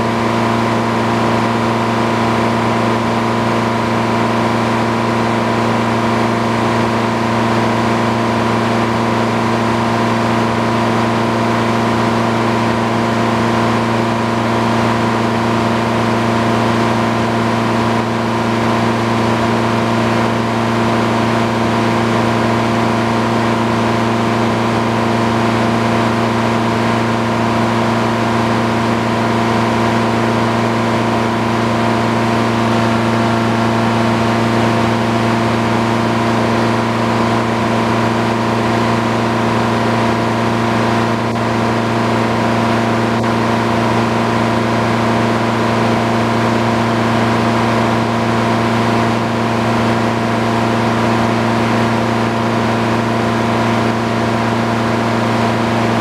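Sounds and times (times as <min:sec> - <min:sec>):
sawmill engine humming: 0:00.0 - 0:56.0.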